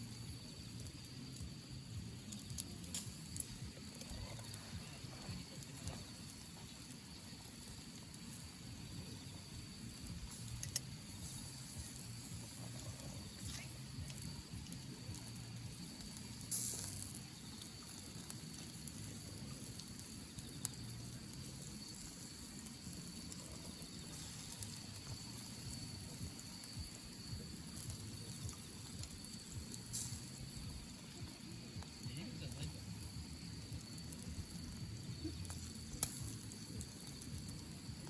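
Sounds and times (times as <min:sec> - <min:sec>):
campfire crackling: 0:00.0 - 0:38.0
faint steady hiss: 0:00.0 - 0:38.0
fire popping: 0:00.0 - 0:38.0.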